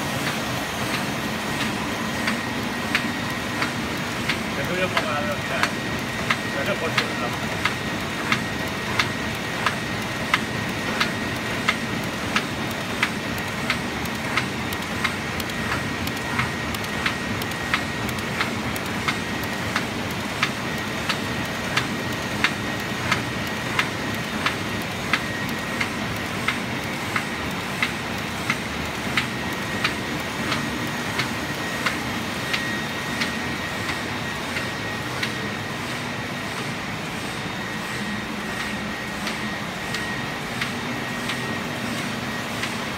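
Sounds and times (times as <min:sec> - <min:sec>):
printing press running: 0:00.0 - 0:42.9
sharp machine clicks: 0:00.2 - 0:35.6, 0:38.0 - 0:42.9.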